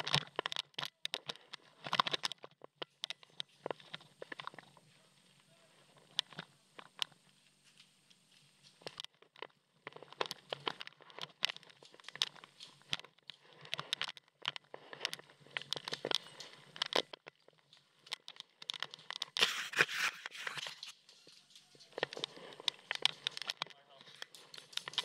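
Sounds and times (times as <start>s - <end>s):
mask and gear rustling and clicking: 0.0s - 25.0s.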